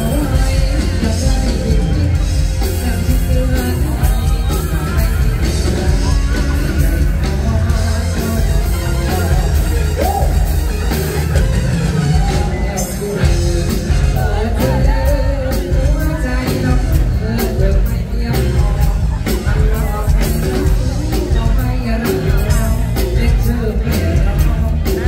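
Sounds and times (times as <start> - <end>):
drum and bass beat: 0.0 - 25.0
person singing: 0.0 - 25.0.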